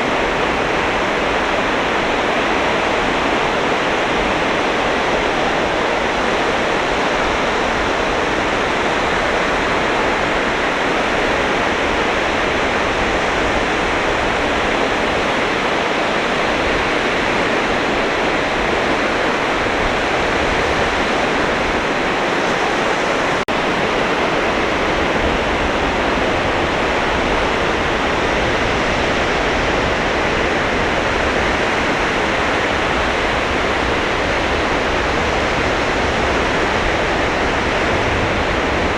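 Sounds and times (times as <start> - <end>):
surf breaking on a beach: 0.0 - 38.9.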